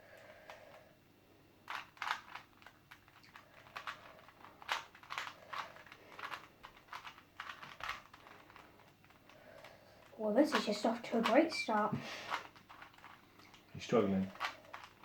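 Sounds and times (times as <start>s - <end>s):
plastic puzzle cube clicking: 1.7s - 11.6s, 12.3s - 15.0s.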